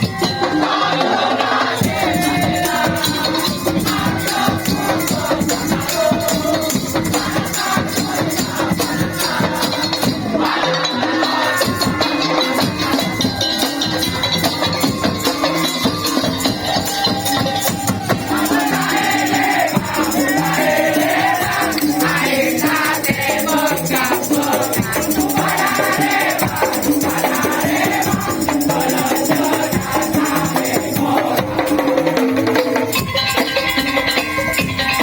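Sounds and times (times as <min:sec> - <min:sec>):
rattling percussion: 0:00.0 - 0:35.0
wooden slit drum rhythm: 0:00.0 - 0:35.0.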